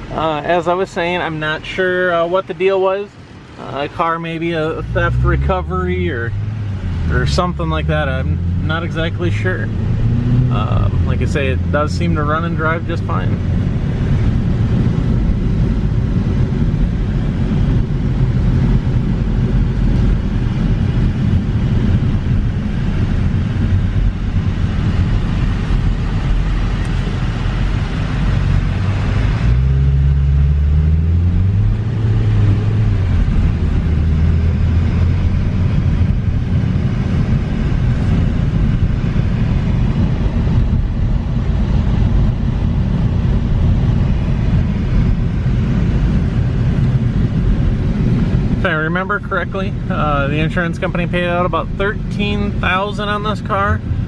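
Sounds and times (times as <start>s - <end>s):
car engine running: 0.0s - 54.0s
road and tyre noise: 0.0s - 54.0s.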